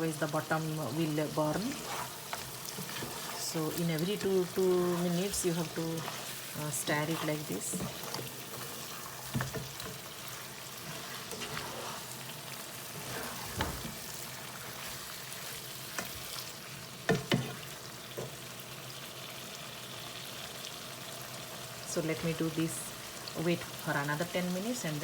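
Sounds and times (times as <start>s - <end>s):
curry sizzling in a pot: 0.0s - 25.0s.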